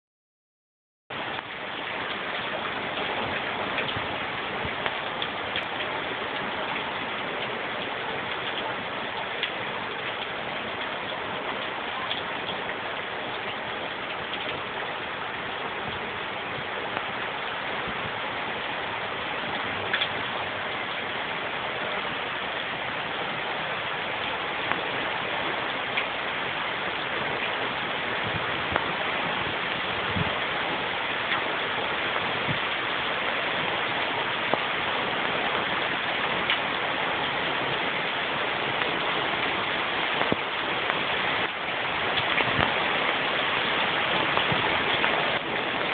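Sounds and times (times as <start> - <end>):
heavy rain pouring: 1.1 - 45.9.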